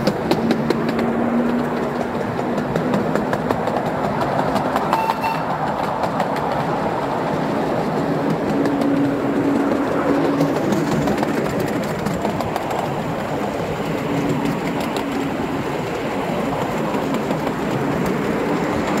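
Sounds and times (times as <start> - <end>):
train wheels rattling over rails: 0.0 - 19.0.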